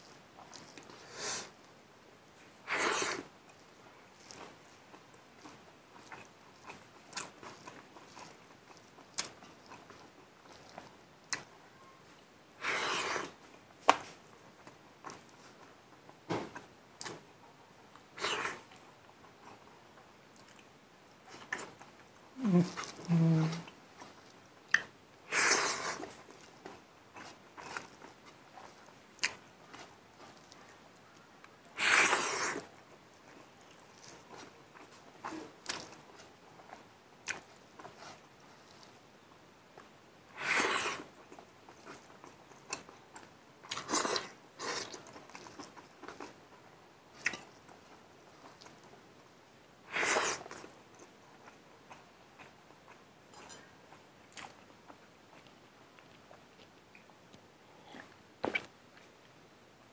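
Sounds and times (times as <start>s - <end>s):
man chewing food: 0.0s - 1.8s, 2.4s - 59.4s.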